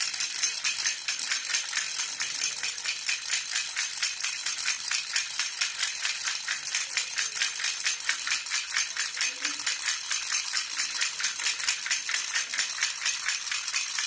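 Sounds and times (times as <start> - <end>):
baby rattle jingling: 0.0 - 14.0.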